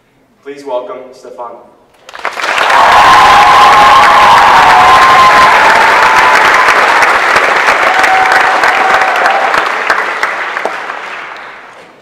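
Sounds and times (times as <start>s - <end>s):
audience applauding: 2.0s - 11.8s.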